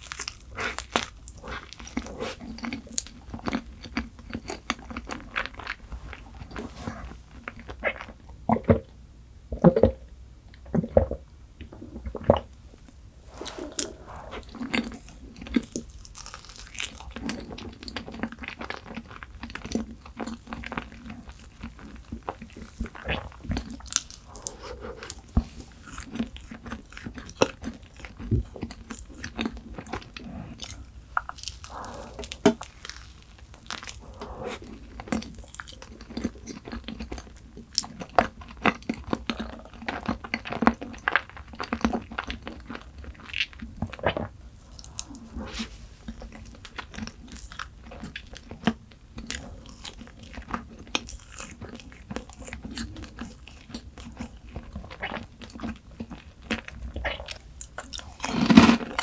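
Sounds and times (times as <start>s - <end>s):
crunching and chewing: 0.0s - 8.7s, 13.4s - 59.0s.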